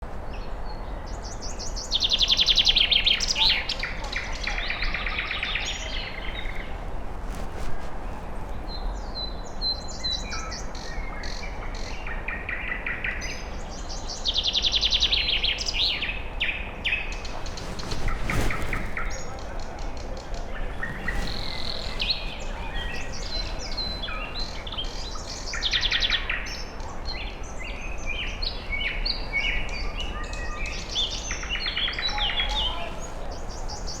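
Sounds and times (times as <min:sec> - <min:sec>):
songbirds singing: 0:00.3 - 0:07.0, 0:07.7 - 0:34.0.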